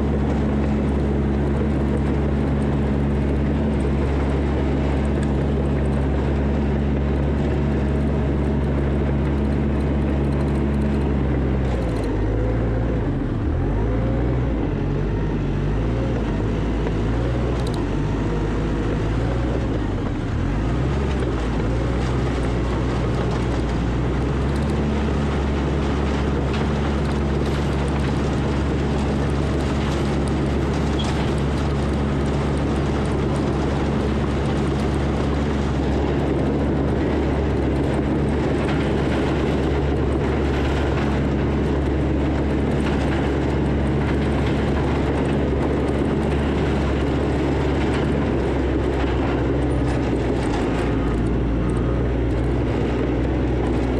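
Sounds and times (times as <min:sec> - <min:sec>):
heavy diesel engine under load: 0:00.0 - 0:53.9
machine pushing dirt: 0:00.0 - 0:53.9.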